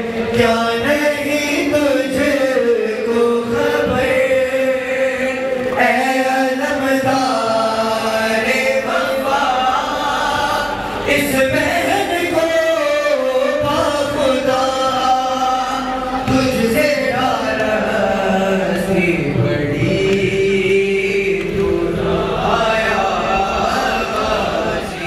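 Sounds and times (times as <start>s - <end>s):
voices chanting a lament: 0.0s - 25.0s.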